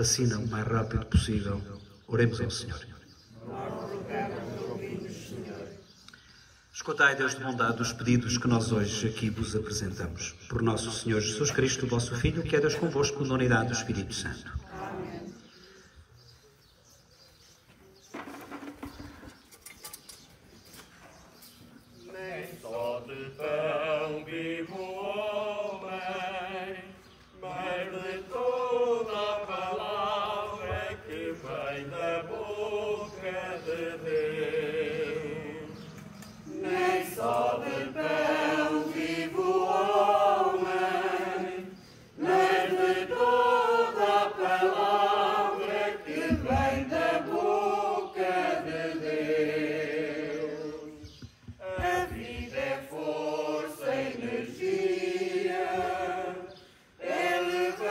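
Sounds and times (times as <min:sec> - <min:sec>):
congregation singing a hymn: 0:02.2 - 0:06.1, 0:07.0 - 0:16.0, 0:21.7 - 0:57.9.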